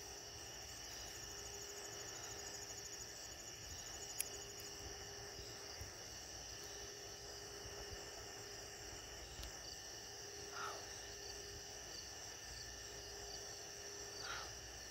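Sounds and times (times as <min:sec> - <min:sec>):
night insects chirping: 0:00.0 - 0:14.9
single insect call: 0:00.0 - 0:14.9.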